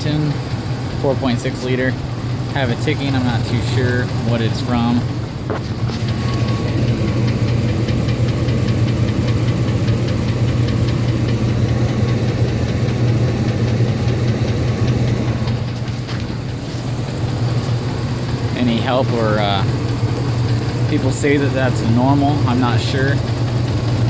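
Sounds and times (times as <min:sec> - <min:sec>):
engine idling with light ticking: 0:00.0 - 0:24.0.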